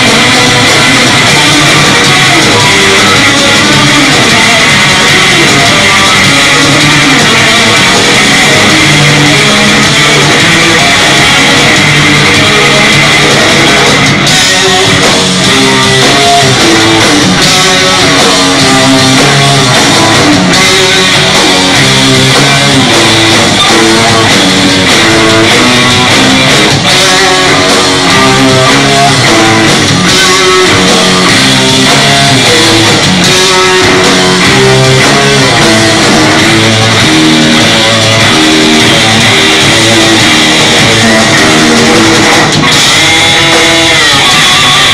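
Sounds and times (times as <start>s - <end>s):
bass guitar: 0.0s - 44.9s
drums: 0.0s - 44.9s
electric guitar riffing: 0.0s - 44.9s.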